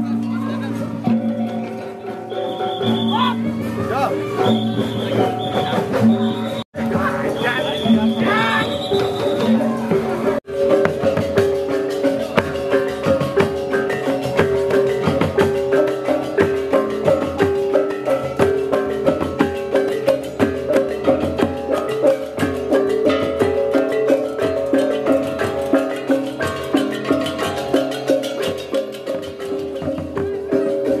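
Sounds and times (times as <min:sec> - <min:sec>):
fast metal percussion: 0:00.0 - 0:31.0.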